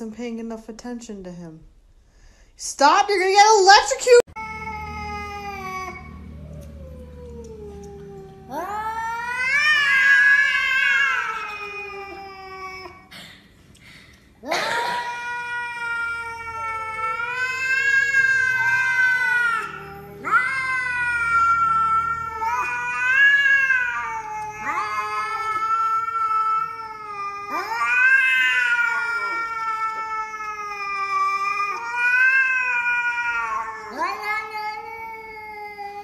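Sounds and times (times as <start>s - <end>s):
cats yowling: 4.4s - 13.1s, 14.4s - 36.0s.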